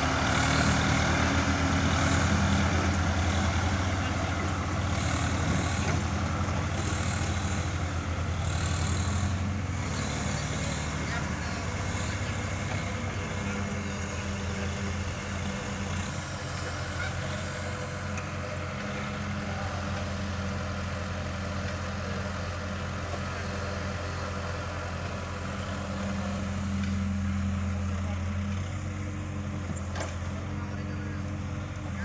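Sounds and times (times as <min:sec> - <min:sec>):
tractor engine humming: 0:00.0 - 0:32.0.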